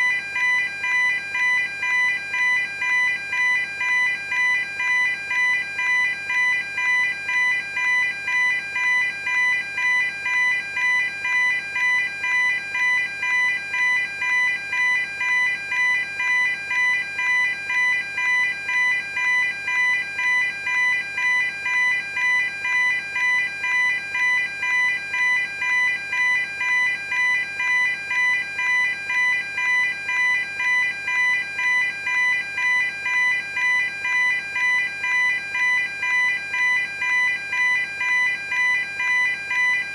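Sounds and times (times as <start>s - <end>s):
level crossing alarm ringing: 0.0s - 39.9s.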